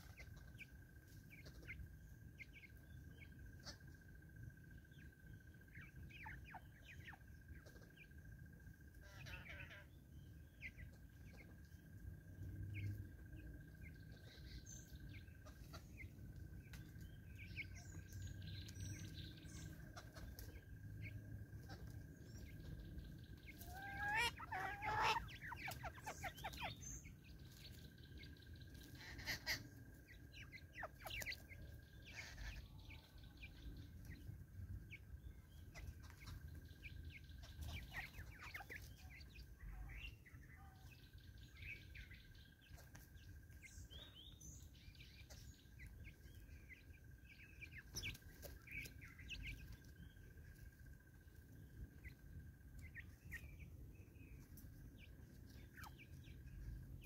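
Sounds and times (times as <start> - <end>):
birds clucking and chirping: 0.0 - 57.0.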